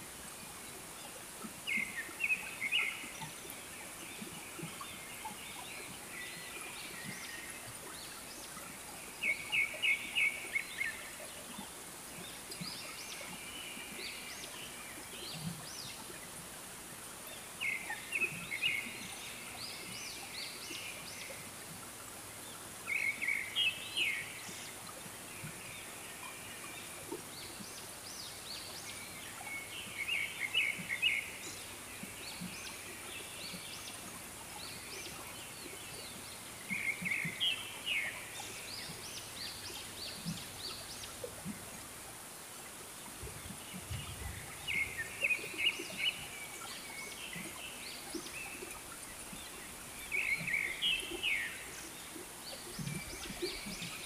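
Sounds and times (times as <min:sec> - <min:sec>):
steady high hiss: 0:00.0 - 0:54.0.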